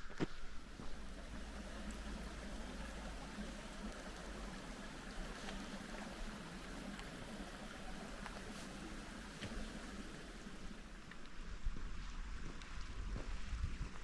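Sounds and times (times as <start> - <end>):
mountain stream running: 0.0 - 13.0
wind buffeting microphone: 0.4 - 14.0.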